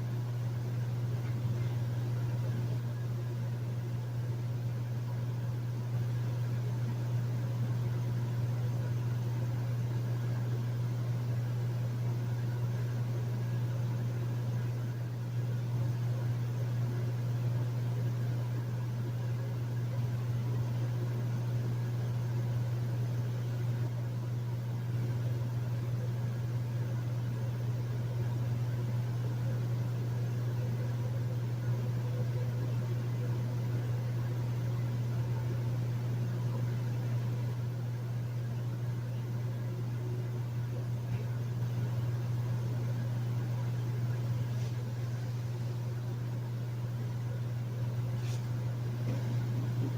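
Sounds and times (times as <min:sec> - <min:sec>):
air conditioner humming: 0:00.0 - 0:49.9.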